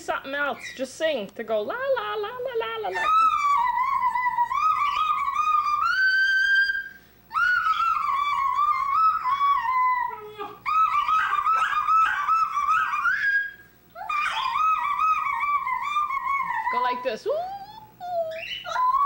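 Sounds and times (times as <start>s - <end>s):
person singing in high wavering voice: 2.3s - 19.0s.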